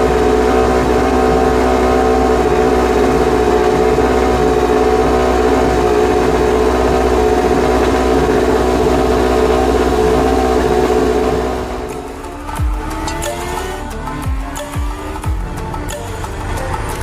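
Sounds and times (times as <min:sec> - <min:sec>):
racing motorcycle engine running: 0:00.0 - 0:17.0.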